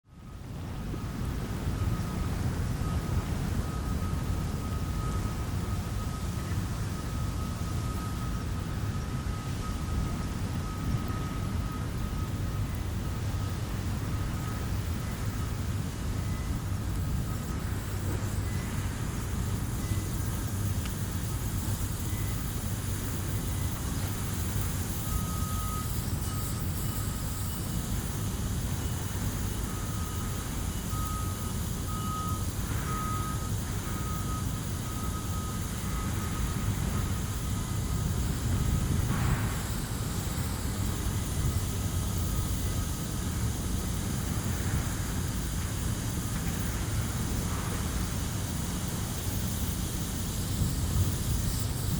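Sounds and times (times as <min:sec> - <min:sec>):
distant truck reversing alarm beeping: 0:00.1 - 0:51.9
low rumble of industry and traffic: 0:00.1 - 0:51.9.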